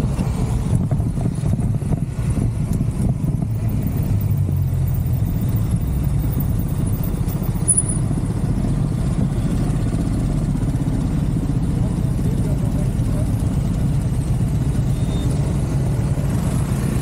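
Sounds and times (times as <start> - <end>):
scooter engines running: 2.5 - 17.0.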